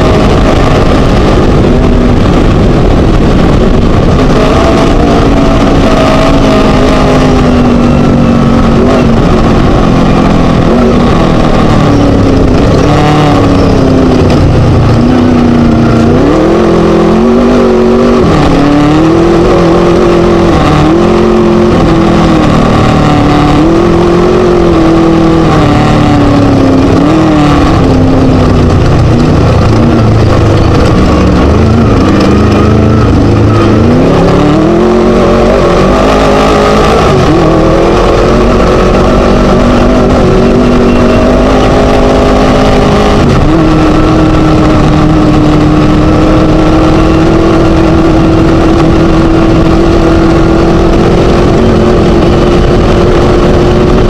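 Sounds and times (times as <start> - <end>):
buggy engine revving: 0.0 - 54.0
constant noisy rush: 0.0 - 54.0.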